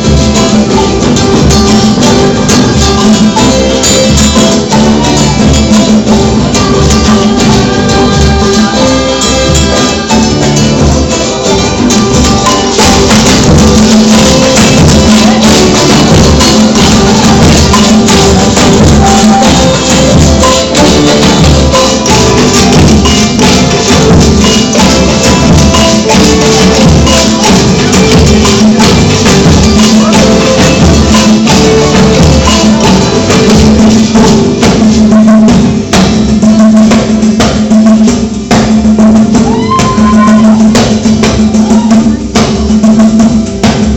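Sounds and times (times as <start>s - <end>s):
music with rhythmic percussion: 0.0s - 43.9s.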